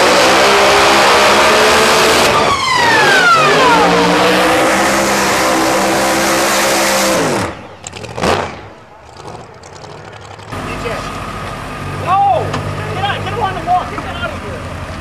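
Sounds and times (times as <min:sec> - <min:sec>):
racing engine at high revs: 0:00.0 - 0:13.9.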